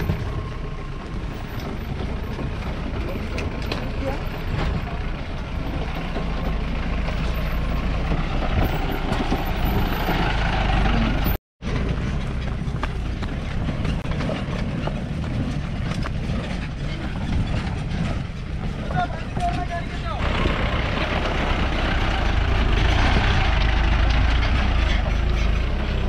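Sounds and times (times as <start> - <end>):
knocks and rattles: 0.0 - 26.0
vehicle engine rumbling: 0.0 - 26.0.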